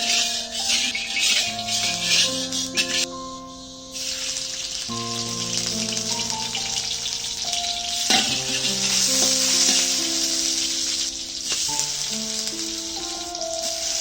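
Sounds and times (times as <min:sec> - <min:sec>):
background music with held notes: 0:00.0 - 0:14.0
food sizzling in a pan: 0:00.0 - 0:14.0.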